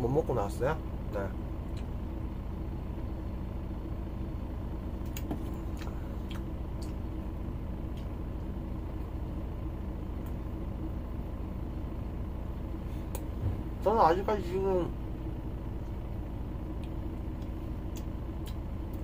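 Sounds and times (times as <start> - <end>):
coach engine idling: 0.0 - 19.0.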